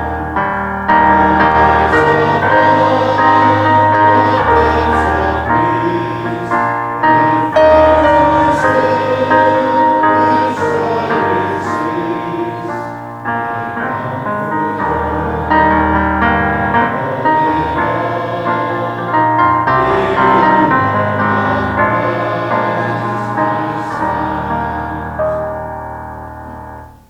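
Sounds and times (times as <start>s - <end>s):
piano playing hymn chords: 0.0s - 27.0s.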